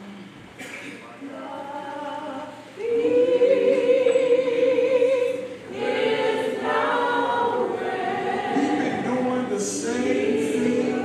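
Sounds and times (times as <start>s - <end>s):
church choir singing: 1.4s - 11.0s.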